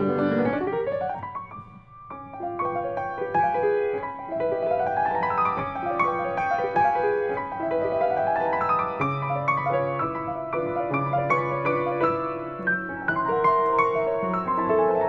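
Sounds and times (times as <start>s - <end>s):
solo grand piano piece: 0.0s - 15.0s.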